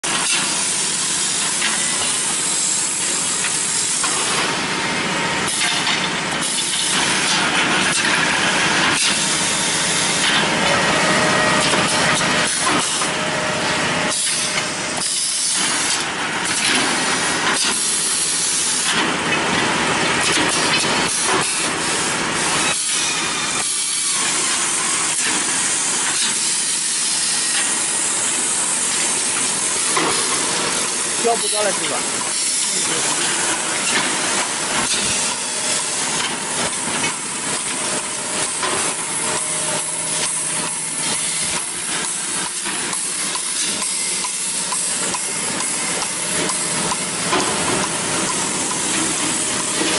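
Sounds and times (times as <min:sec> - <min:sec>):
machine running: 0:00.0 - 0:49.9.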